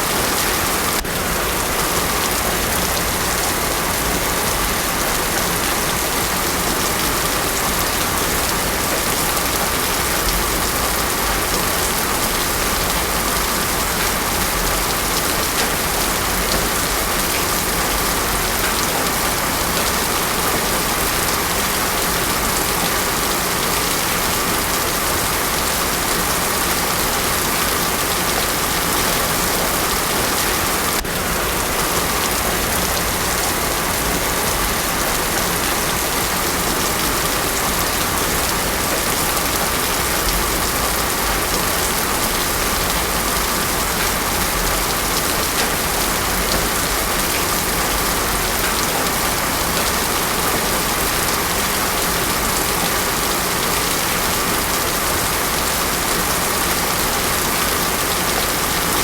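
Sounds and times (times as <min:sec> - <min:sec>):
heavy rain on a road: 0:00.0 - 0:59.0.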